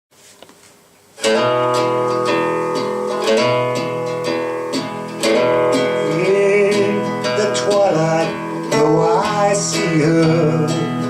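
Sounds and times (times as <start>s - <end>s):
acoustic guitar strumming: 1.2s - 11.0s.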